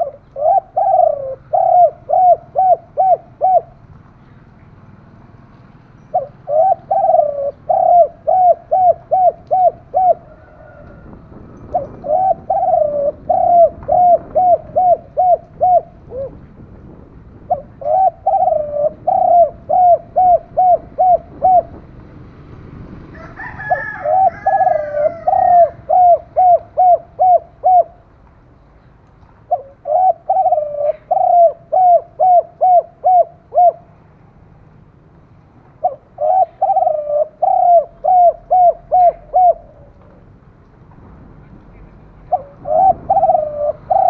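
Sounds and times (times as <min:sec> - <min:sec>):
dove cooing: 0:00.0 - 0:03.8, 0:06.1 - 0:21.9, 0:23.0 - 0:28.1, 0:29.5 - 0:34.0, 0:35.8 - 0:40.4, 0:41.7 - 0:44.0.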